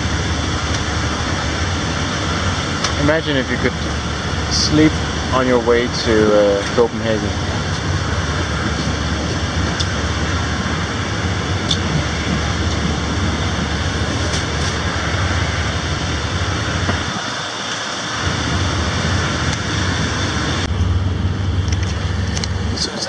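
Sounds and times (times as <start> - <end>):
passenger train running noise: 0.0 - 23.0.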